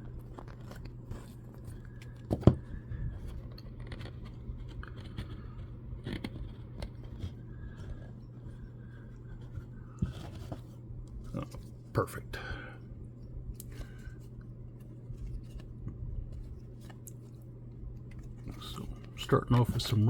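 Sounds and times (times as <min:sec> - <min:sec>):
handling knocks and scrapes: 0:00.0 - 0:11.9, 0:13.6 - 0:20.0
steady low hum: 0:00.0 - 0:20.0.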